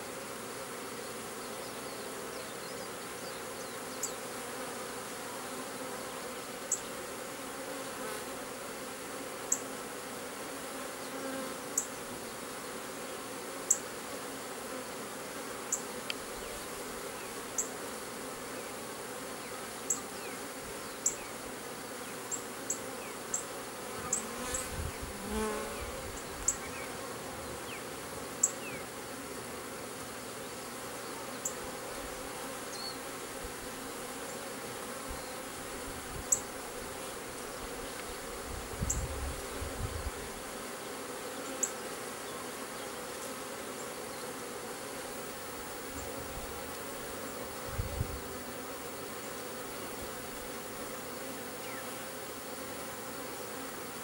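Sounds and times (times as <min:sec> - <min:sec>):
bee passing close: 0:00.0 - 0:54.0
honeybees buzzing: 0:00.0 - 0:54.0.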